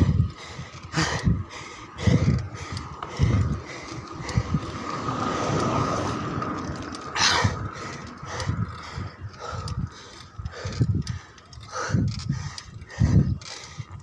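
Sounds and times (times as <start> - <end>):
heavy labored breathing: 0.0 - 14.0.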